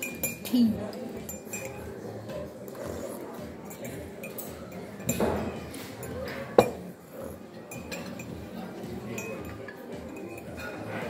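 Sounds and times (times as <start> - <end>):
spoon clinking on china: 0.0 - 2.3, 3.6 - 6.9, 7.6 - 11.0.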